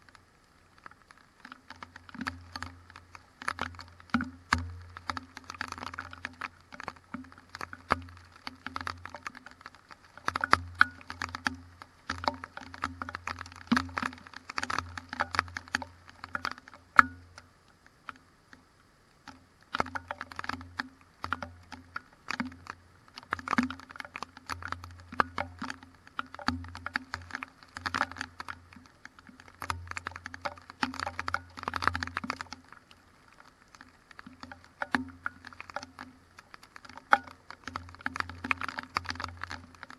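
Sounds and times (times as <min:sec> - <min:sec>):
raindrops tapping on camera: 0:00.0 - 0:39.9.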